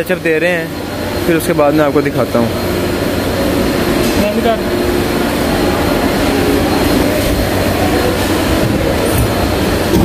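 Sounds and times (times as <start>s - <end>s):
machinery rush and hum: 0.0s - 10.0s.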